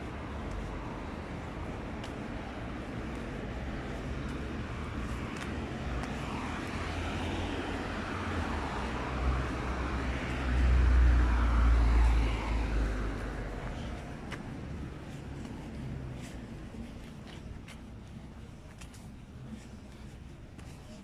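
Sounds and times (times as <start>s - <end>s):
passing vehicle rumble: 0.0s - 17.2s
street noise: 0.0s - 21.0s.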